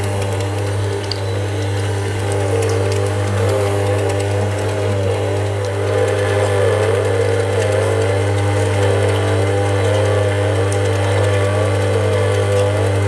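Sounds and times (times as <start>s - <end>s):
mixer motor grinding meat: 0.0s - 13.0s.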